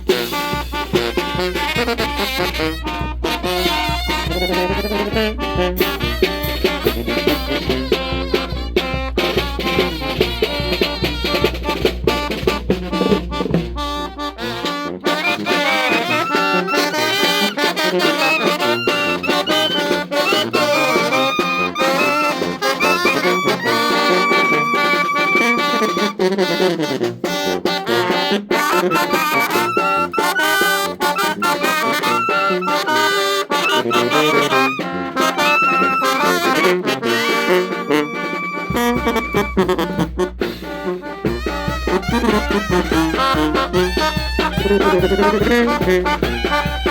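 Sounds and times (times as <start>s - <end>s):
brass band playing: 0.0s - 46.9s.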